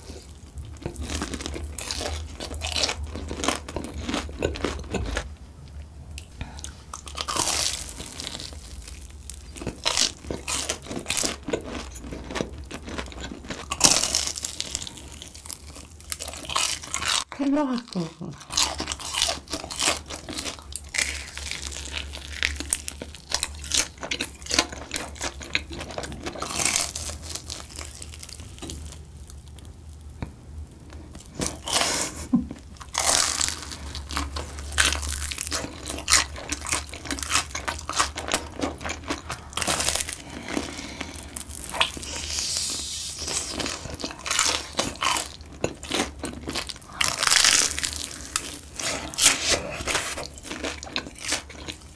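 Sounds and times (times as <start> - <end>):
crunching and chewing: 0.0 - 5.4, 6.2 - 51.9.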